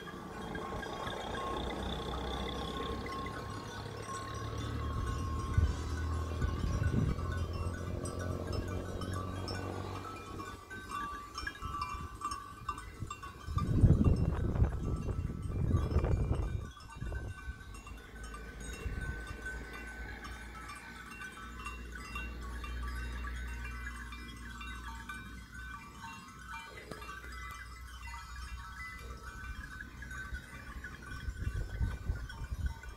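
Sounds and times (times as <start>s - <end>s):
goat bells tinkling: 0.0s - 32.9s.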